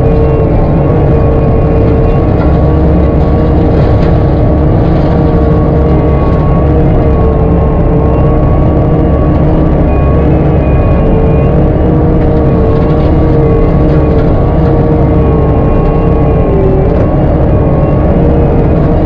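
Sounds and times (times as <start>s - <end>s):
machine engine running under load: 0.0s - 19.0s.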